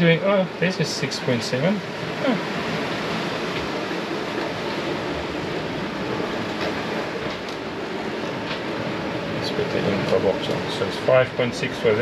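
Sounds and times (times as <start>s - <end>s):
water streaming past hulls: 0.0s - 12.0s.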